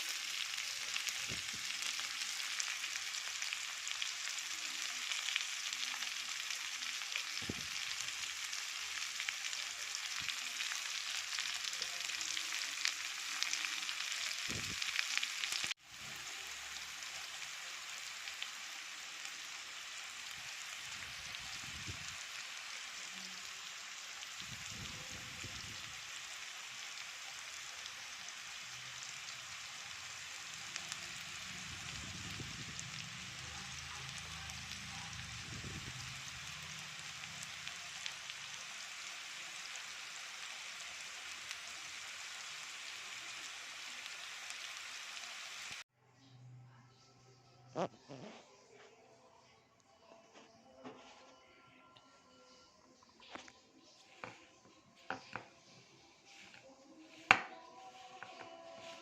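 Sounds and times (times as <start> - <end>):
food sizzling in hot oil: 0.0 - 45.9, 56.2 - 59.0.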